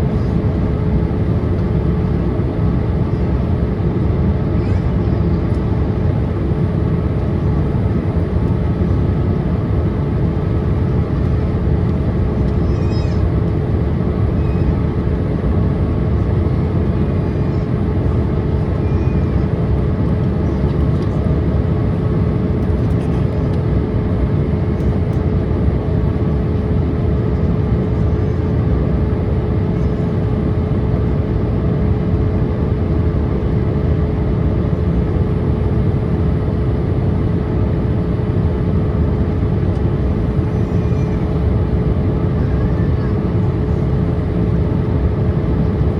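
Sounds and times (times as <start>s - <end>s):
constant hum: 0.0s - 45.9s
roar of engines and airflow: 0.0s - 45.9s.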